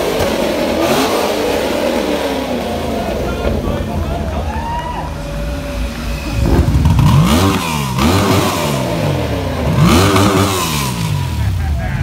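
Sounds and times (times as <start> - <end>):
engine revving: 0.0 - 4.0, 5.2 - 11.7.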